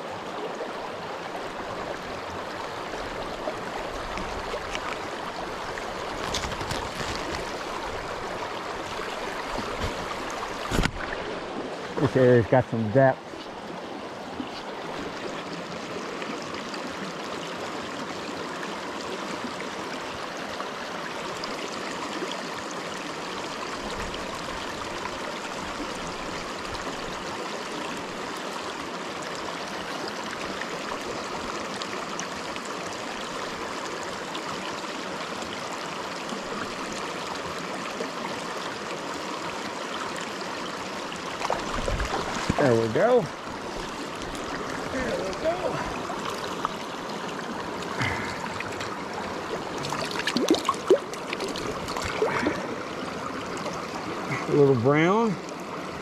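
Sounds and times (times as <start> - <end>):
creek running over rocks: 0.0 - 56.0.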